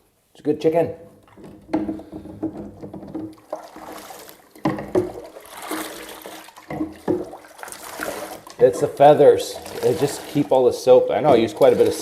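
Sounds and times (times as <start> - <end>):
water running and splashing: 1.2 - 12.0.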